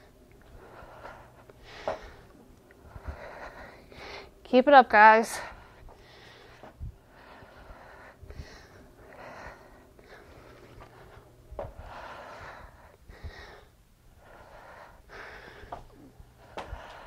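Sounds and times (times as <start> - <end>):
woman breathing hard: 0.0 - 4.4, 5.3 - 17.0.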